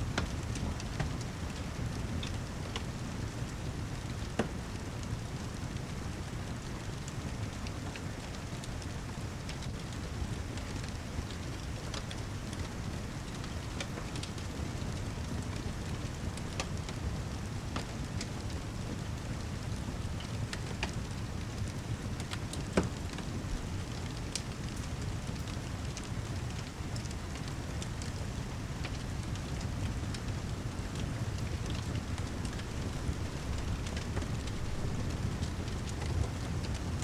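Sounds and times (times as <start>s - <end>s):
wood fire crackling and popping: 0.1s - 37.0s.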